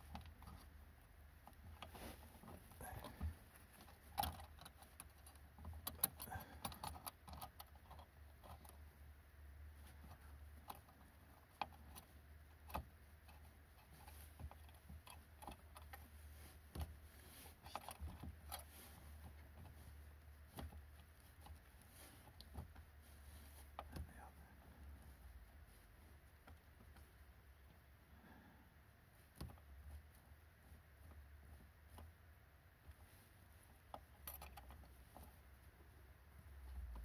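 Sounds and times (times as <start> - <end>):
small metallic clicks and taps: 0.0 - 8.9, 9.8 - 22.9, 23.6 - 25.2, 29.2 - 37.0.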